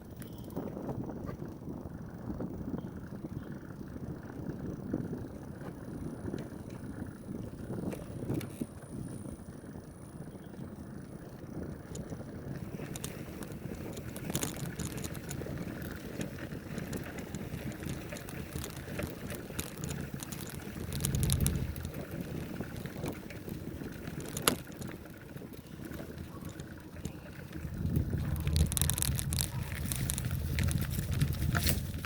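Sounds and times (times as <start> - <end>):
bicycle frame rattling: 0.0 - 32.0
bicycle tyres rumbling on dirt: 0.0 - 32.0
wind buffeting microphone: 0.0 - 32.0.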